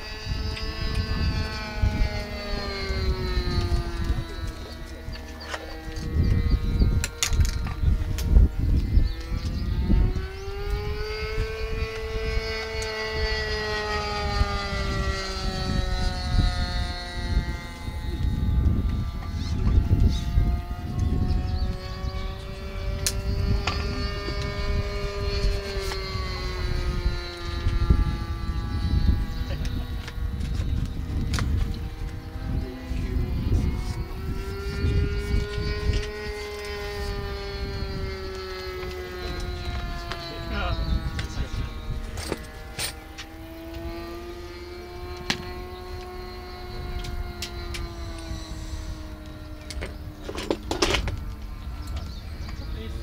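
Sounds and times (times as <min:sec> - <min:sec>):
model aircraft engine whining: 0:00.0 - 0:53.0
wind rumbling on microphone: 0:00.0 - 0:53.0.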